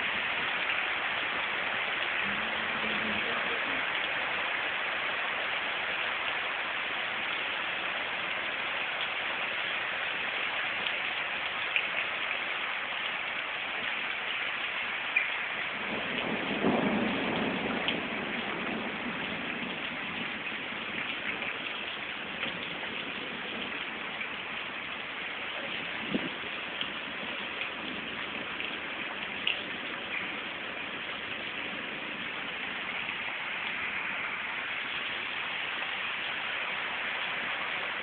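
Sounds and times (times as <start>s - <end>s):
low rushing water: 0.0s - 38.0s
rain splashing into water: 0.0s - 38.0s.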